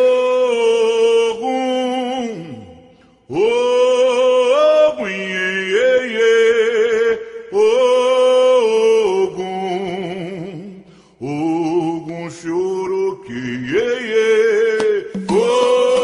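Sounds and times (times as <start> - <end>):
slow chant-like singing: 0.0 - 16.0.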